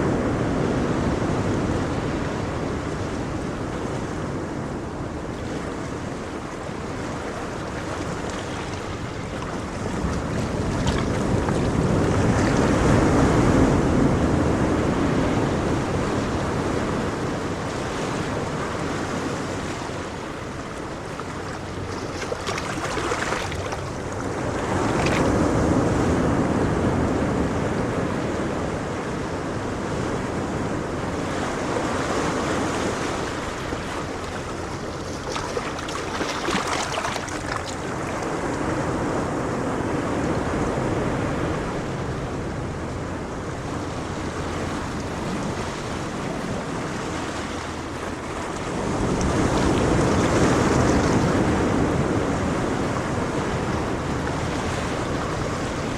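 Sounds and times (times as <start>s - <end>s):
ocean waves breaking on shore: 0.0s - 55.9s
wind buffeting microphone: 0.0s - 55.9s.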